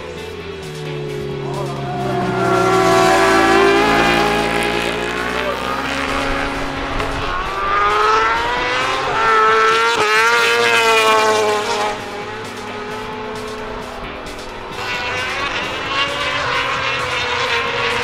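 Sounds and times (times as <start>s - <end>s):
racing motorbike engines revving: 0.0s - 18.0s.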